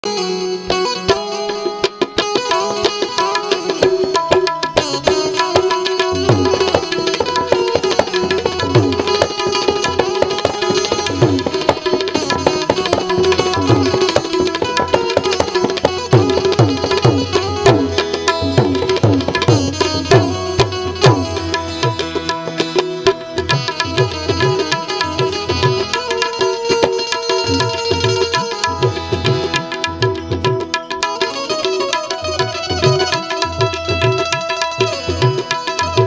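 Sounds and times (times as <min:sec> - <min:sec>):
sustained melodic instrument: 0:00.0 - 0:36.0
tabla rhythm: 0:00.0 - 0:36.0.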